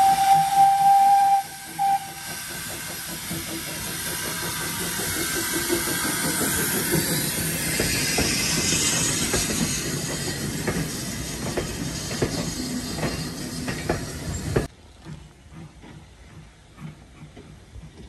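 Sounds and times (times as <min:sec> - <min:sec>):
steam hissing: 0:00.0 - 0:14.7
train wheels clicking over rail joints: 0:00.0 - 0:18.0.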